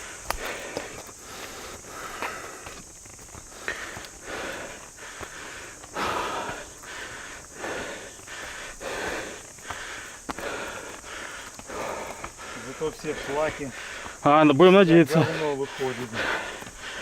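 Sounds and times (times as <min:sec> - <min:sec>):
person breathing hard: 0:00.0 - 0:14.3, 0:15.0 - 0:17.0.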